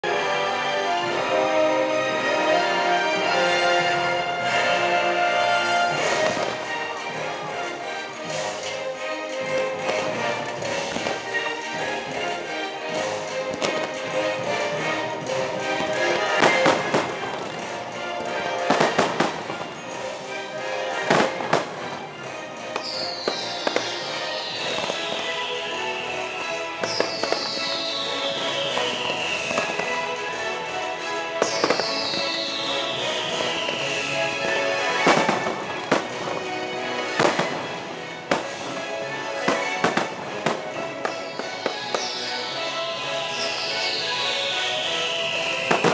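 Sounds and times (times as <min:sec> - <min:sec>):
music from loudspeakers: 0:00.1 - 0:45.9
fireworks bangs: 0:02.6 - 0:45.9.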